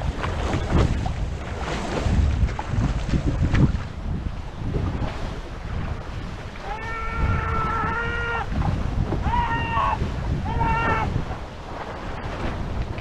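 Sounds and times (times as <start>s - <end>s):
water rushing past boat: 0.0s - 13.0s
wind on microphone: 0.0s - 13.0s.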